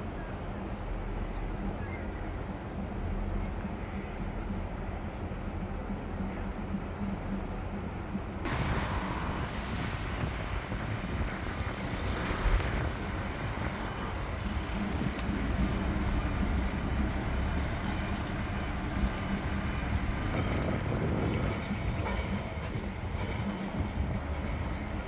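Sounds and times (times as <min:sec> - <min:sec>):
distant road traffic rumble: 0:00.4 - 0:25.0.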